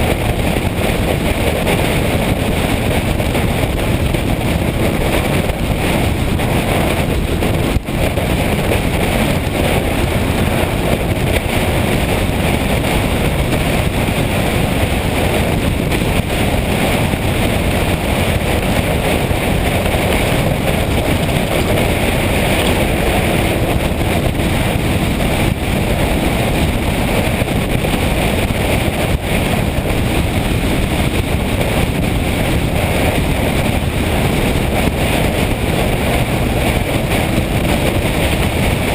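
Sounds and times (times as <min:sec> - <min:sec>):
motorcycle engine and road noise: 0:00.0 - 0:38.9
wind buffeting microphone: 0:00.0 - 0:38.9.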